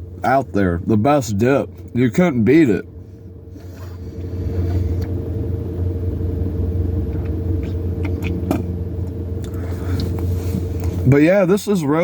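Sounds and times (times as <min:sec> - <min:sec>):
low rumble: 0:00.0 - 0:11.2
droning hum: 0:00.0 - 0:12.0.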